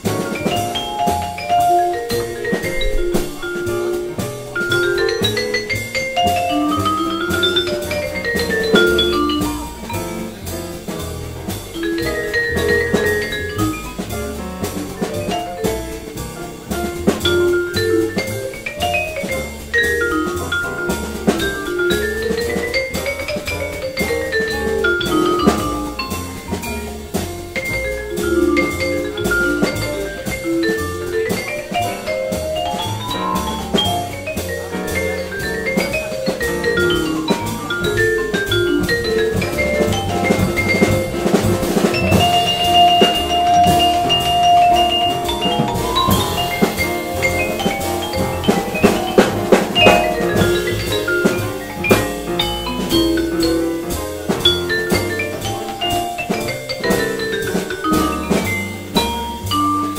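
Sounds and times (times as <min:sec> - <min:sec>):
double bass: 0:00.0 - 0:59.9
drums with cymbal beat: 0:00.0 - 0:59.9
piano: 0:00.0 - 0:59.9
vibraphone solo: 0:00.2 - 0:59.9.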